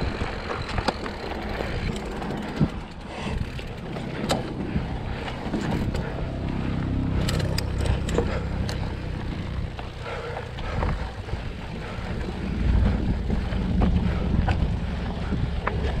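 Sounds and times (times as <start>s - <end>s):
bike clicks and rattles: 0.0s - 16.0s
bike tyre rumble: 0.0s - 16.0s
wind buffeting microphone: 0.0s - 16.0s.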